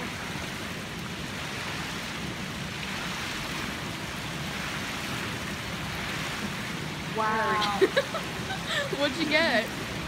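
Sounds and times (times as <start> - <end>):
fountain water splashing into pool: 0.0 - 10.0.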